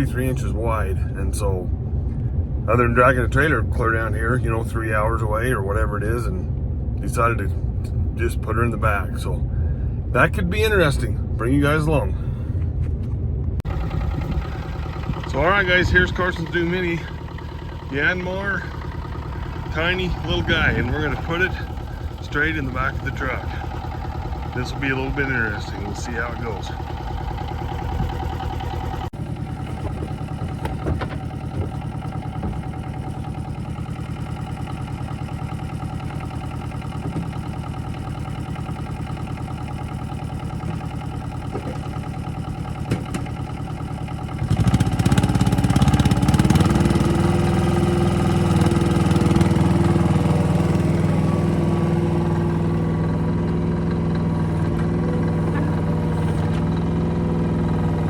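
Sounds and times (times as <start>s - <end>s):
small diesel engine running: 0.0s - 58.0s.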